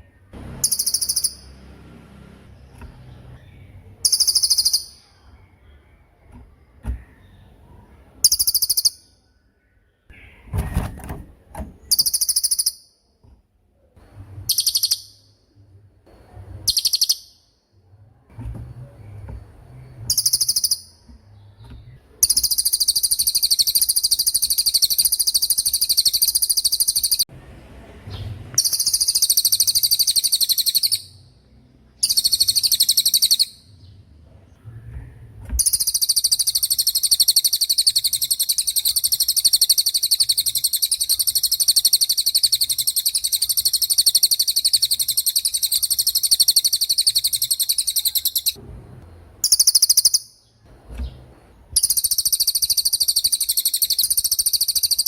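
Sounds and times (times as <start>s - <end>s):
bird singing high rapid trills: 0.0s - 6.2s, 7.1s - 10.5s, 11.8s - 13.0s, 14.4s - 15.5s, 16.3s - 17.7s, 19.1s - 27.3s, 28.2s - 33.9s, 35.6s - 48.6s, 49.4s - 50.6s, 51.8s - 55.0s.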